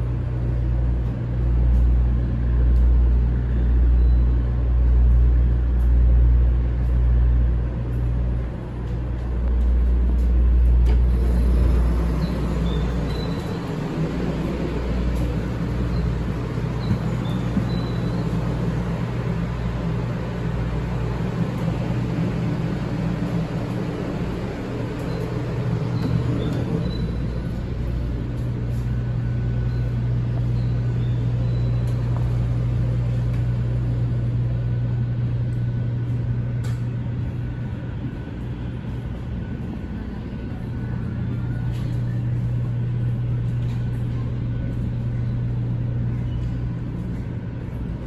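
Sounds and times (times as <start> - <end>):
train equipment low hum: 0.0 - 48.0.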